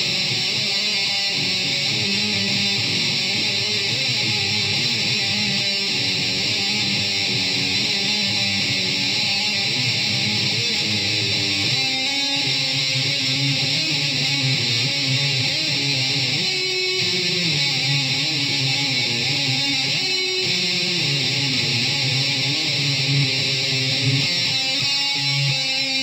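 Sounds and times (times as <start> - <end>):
solo electric guitar: 0.0 - 26.0.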